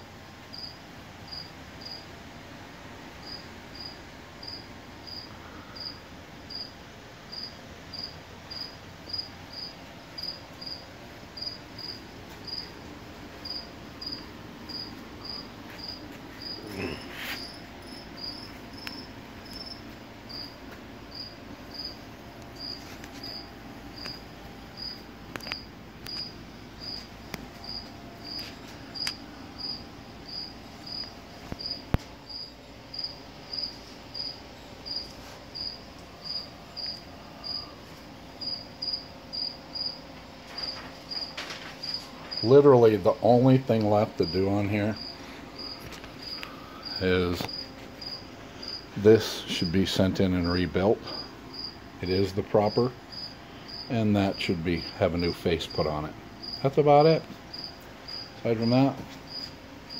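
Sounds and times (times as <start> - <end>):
cricket chirping: 0.5 - 2.1, 3.2 - 42.6, 44.2 - 49.7, 50.5 - 55.3, 56.3 - 56.7, 57.5 - 59.9.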